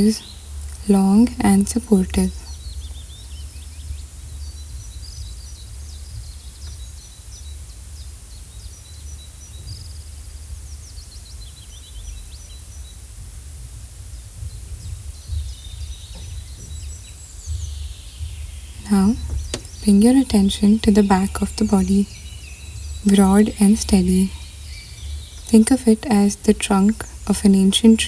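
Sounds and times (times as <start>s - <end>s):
birds chirping: 0.0s - 13.2s, 14.1s - 28.0s.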